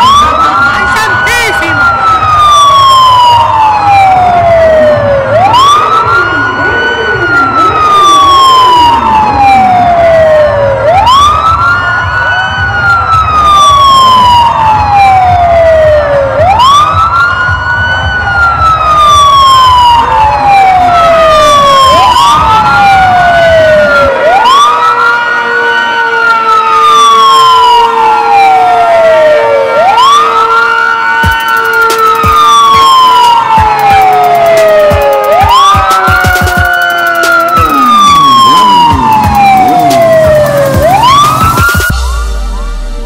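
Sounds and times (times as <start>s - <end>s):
siren wailing: 0.0s - 43.0s.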